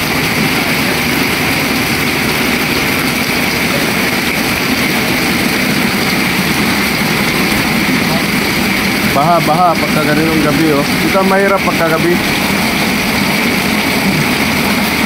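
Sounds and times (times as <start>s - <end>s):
heavy rain on water: 0.0s - 15.0s.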